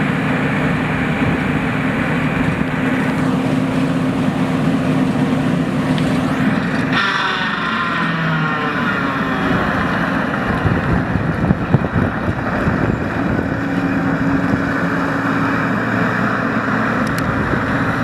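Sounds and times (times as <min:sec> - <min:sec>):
high engine whine: 0:00.0 - 0:18.0
skid steer engine running: 0:00.0 - 0:18.0.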